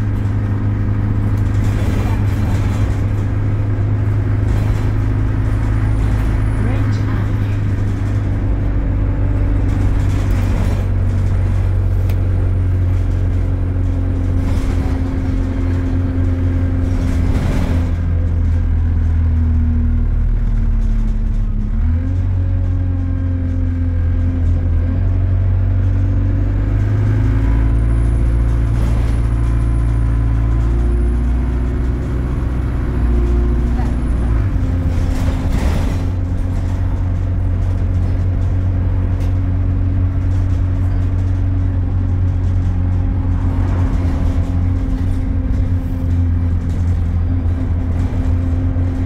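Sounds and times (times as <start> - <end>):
bus diesel engine droning: 0.0 - 49.0.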